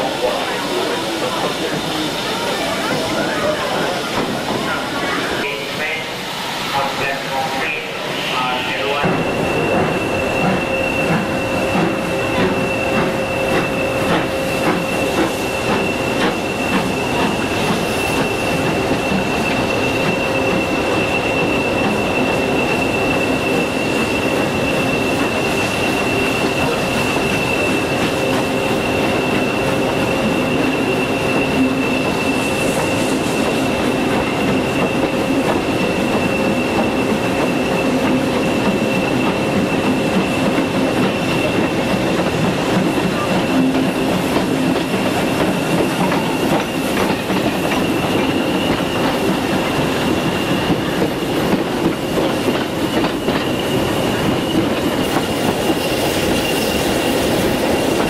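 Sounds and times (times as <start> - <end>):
train rail rumble and rattle: 0.0 - 58.0.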